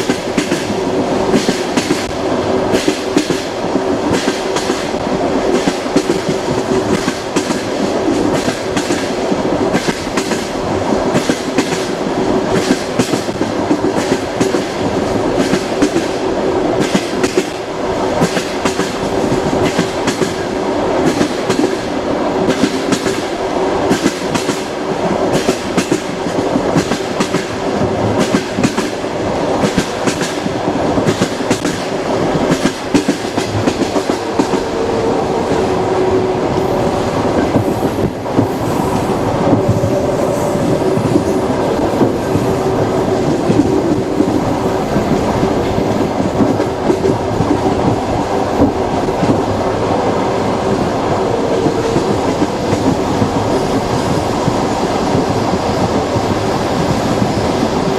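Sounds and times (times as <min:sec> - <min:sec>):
train rumble: 0:00.0 - 0:57.9
train wheels clickety-clack: 0:00.0 - 0:57.9.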